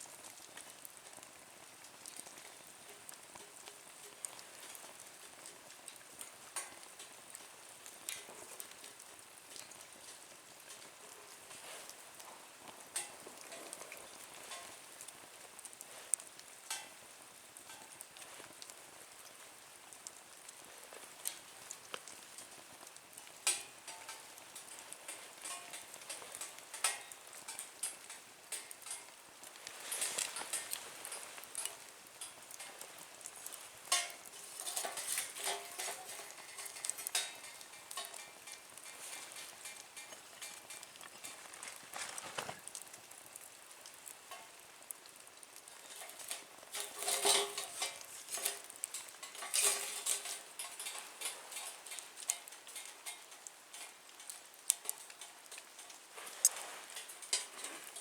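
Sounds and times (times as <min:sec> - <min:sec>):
sizzling hiss: 0:00.0 - 0:58.0
wood fire crackling and popping: 0:00.0 - 0:58.0.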